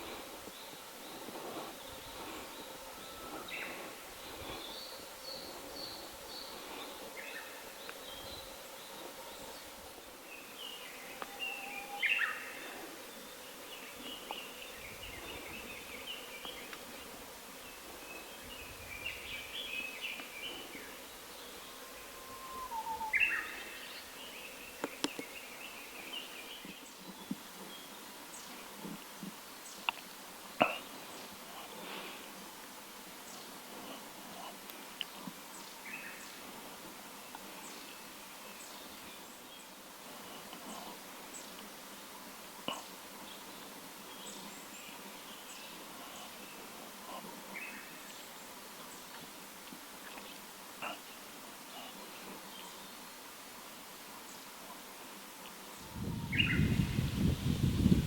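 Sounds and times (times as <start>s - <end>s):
background hiss: 0.0s - 58.0s
songbirds calling and chattering: 0.0s - 58.0s.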